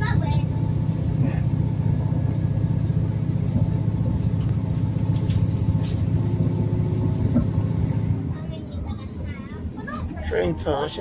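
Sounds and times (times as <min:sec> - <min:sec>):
diesel train engine rumble: 0:00.0 - 0:11.0.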